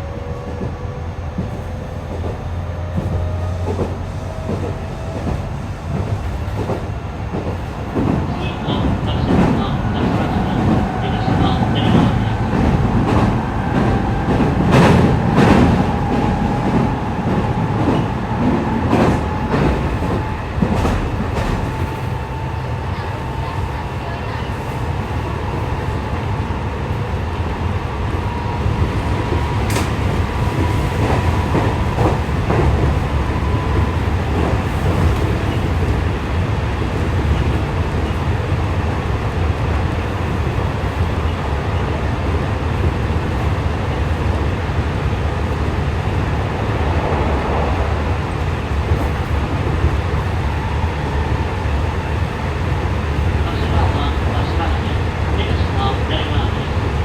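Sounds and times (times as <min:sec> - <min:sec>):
train wheels rumbling on rails: 0:00.0 - 0:57.0
rail joint clicks: 0:00.3 - 0:57.0.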